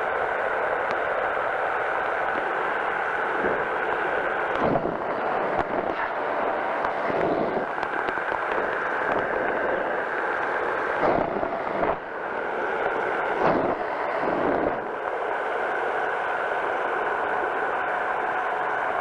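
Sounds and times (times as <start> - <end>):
engine and propeller running: 0.0 - 19.0.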